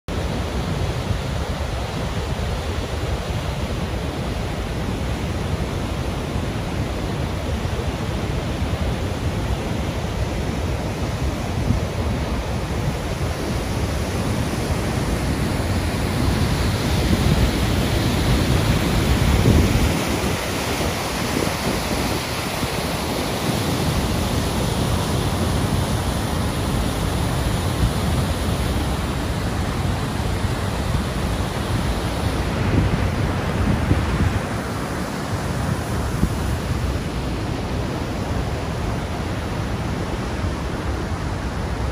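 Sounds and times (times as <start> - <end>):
water rushing over rocks: 0.1 - 41.9.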